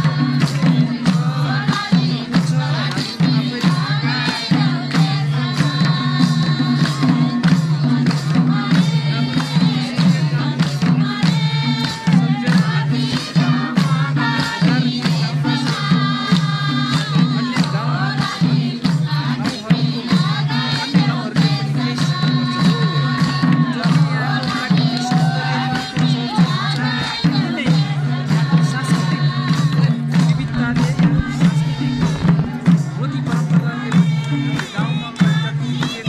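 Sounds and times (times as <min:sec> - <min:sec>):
hand drums: 0:00.0 - 0:36.0
voices singing: 0:00.0 - 0:36.0.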